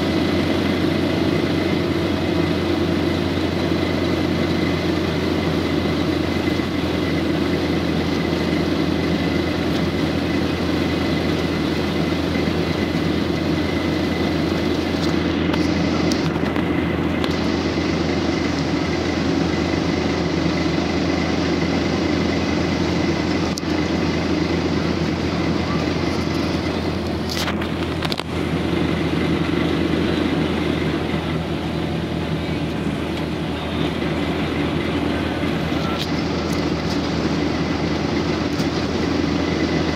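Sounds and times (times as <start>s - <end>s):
bus engine drone: 0.0s - 39.9s
high engine whine: 0.0s - 39.9s.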